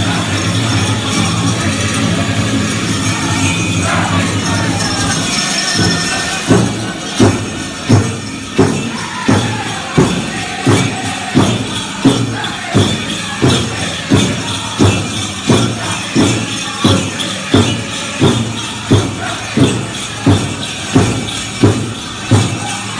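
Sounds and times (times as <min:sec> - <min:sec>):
bells jingling: 0:00.0 - 0:22.9
big drum beating: 0:00.0 - 0:22.9.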